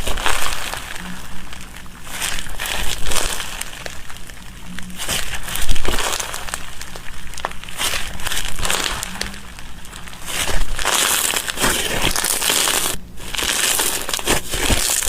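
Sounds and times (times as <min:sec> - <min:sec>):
slime squeezed by hand: 0:00.0 - 0:15.0.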